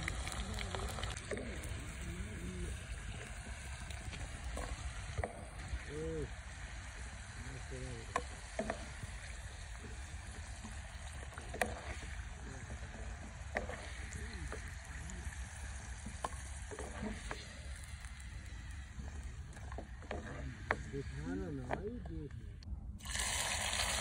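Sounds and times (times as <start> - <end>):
potatoes sizzling in hot oil: 0.0 - 21.5, 23.0 - 24.0.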